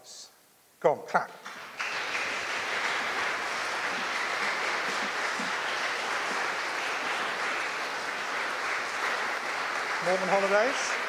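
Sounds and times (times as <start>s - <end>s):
congregation clapping: 1.3s - 11.0s.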